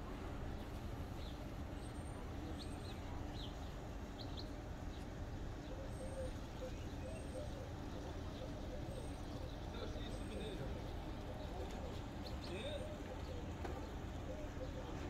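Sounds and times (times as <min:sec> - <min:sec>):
birds chirping: 0:00.4 - 0:15.0.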